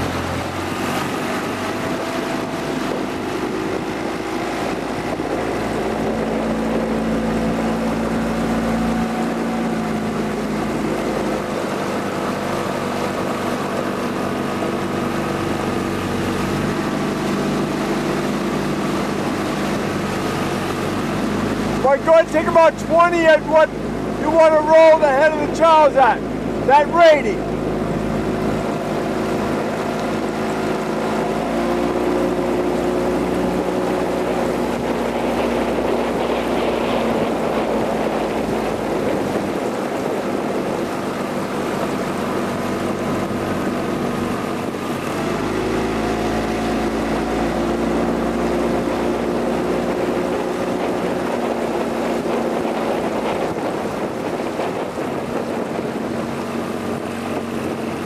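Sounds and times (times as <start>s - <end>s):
motorboat engine running: 0.0s - 58.0s
rush of wind and water: 0.0s - 58.0s.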